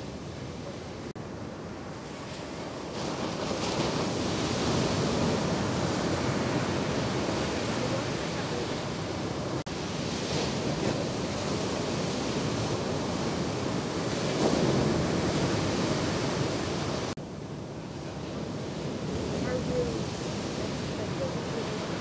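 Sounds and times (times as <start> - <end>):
ocean surf breaking: 0.0 - 22.0.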